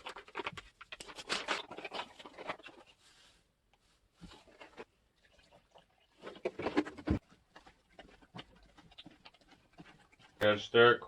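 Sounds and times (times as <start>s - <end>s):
paste mixing scraping: 0.0s - 11.0s.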